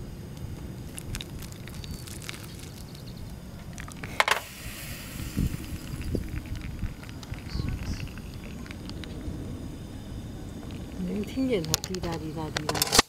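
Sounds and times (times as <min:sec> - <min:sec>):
steady low rumble: 0:00.0 - 0:13.0
water pouring from a kettle: 0:00.8 - 0:12.1.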